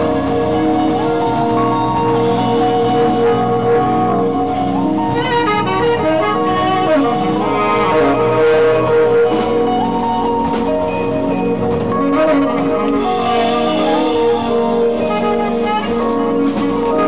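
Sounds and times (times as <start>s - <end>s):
drum kit: 0.0s - 17.0s
electric guitar: 0.0s - 17.0s
keyboard: 0.0s - 17.0s
saxophone: 0.0s - 17.0s.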